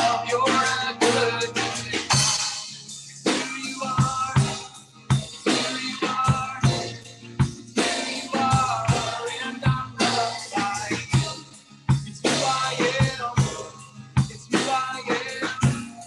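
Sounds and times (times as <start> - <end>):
drum kit beat: 0.0 - 16.0
strummed acoustic guitar: 0.0 - 16.0.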